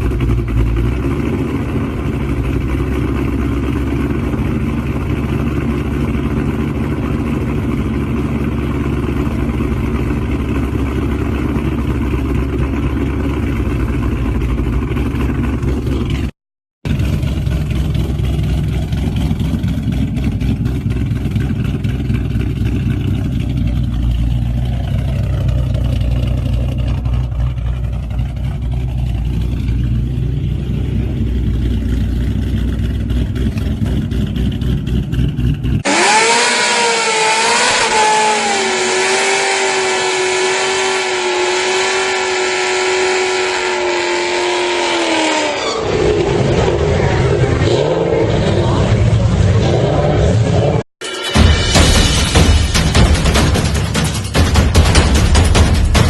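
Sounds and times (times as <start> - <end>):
engine at high revs: 0.0 - 16.3, 16.9 - 51.0
car engine rumbling: 0.0 - 56.0.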